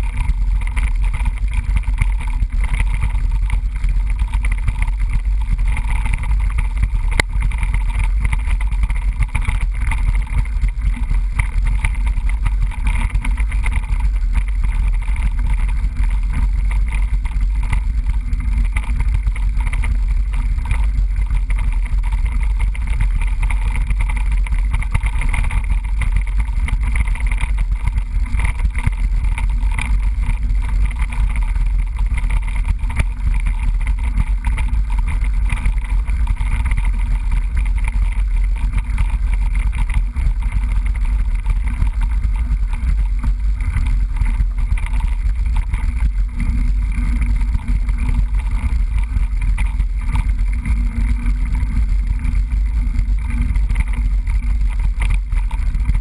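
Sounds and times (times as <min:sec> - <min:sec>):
bike rattles and ticks: 0:00.0 - 0:56.0
wind noise on microphone: 0:00.0 - 0:56.0.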